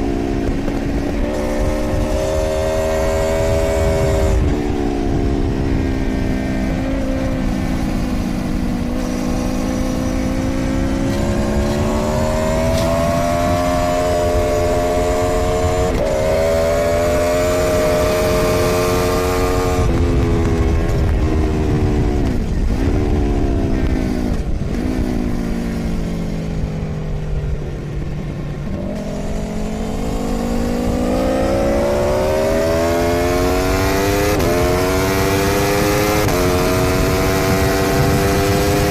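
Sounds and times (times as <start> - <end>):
motorcycle engine revving: 0.0 - 38.9
wind noise: 0.0 - 38.9.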